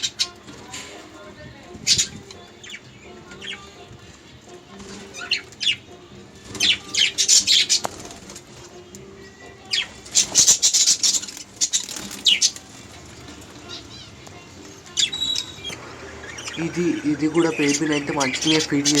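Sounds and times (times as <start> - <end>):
budgerigars chirping and squawking: 0.0 - 1.0, 1.8 - 3.9, 4.8 - 19.0.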